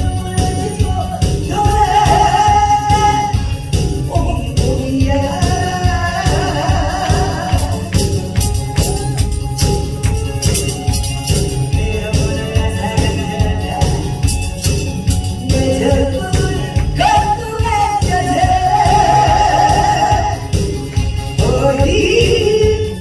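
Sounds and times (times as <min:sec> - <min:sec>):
upbeat song with steady beat: 0:00.0 - 0:23.0.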